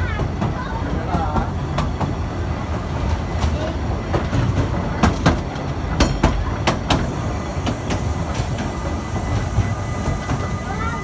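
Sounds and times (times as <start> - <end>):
train rumble: 0.0 - 11.0
wheels clicking over rail joints: 0.1 - 11.0.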